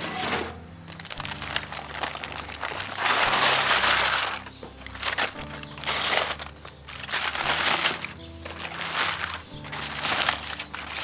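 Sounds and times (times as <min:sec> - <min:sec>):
aluminium foil crinkling: 0:00.9 - 0:11.0.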